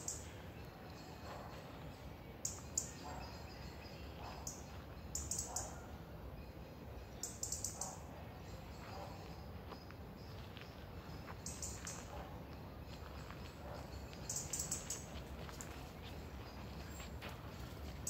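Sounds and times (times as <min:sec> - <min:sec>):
low background noise: 0:00.0 - 0:18.0
small birds chirping: 0:00.0 - 0:18.0.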